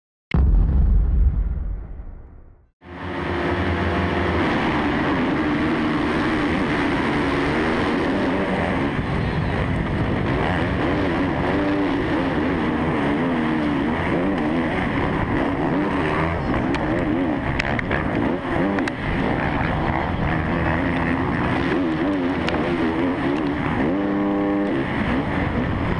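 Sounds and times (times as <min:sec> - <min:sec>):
motocross bikes at full throttle: 0:02.8 - 0:25.9
motorcycle engine revving: 0:02.8 - 0:25.9.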